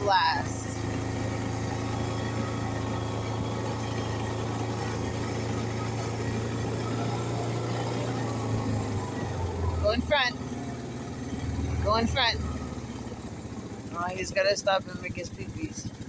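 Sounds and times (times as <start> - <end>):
atv engine running steadily: 0.0 - 16.0.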